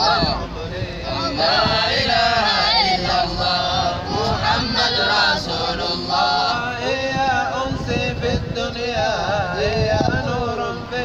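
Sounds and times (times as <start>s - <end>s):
men chanting: 0.0s - 11.0s.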